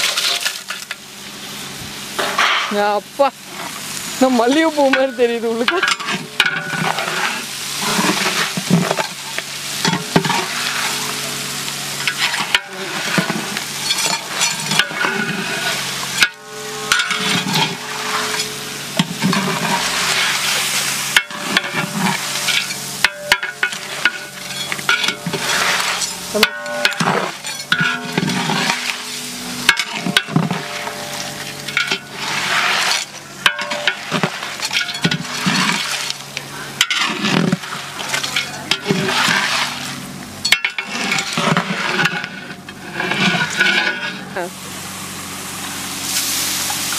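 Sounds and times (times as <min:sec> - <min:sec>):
steady sizzle: 0:00.0 - 0:46.9
spatula scraping and knocking pot: 0:04.8 - 0:11.4, 0:12.0 - 0:39.8, 0:40.5 - 0:44.3.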